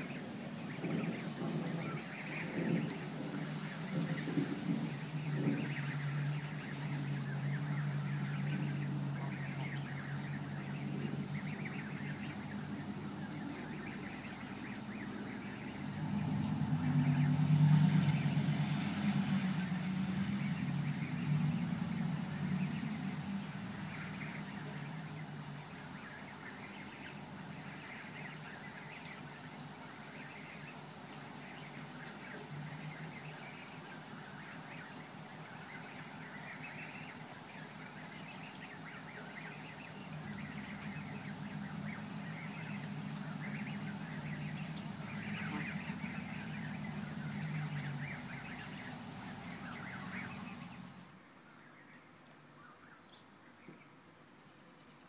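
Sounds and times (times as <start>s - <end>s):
low engine hum: 0.0s - 51.2s
goslings peeping: 0.0s - 53.9s.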